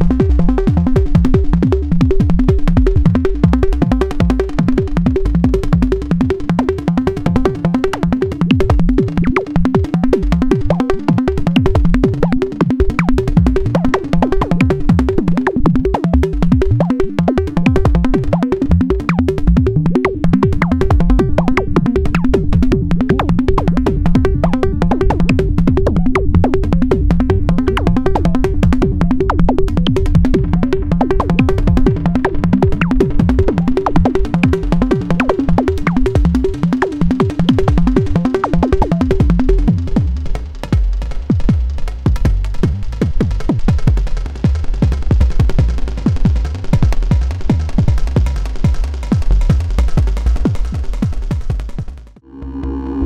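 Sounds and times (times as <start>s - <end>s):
synthesizer pitched kick drums: 0.0s - 53.0s.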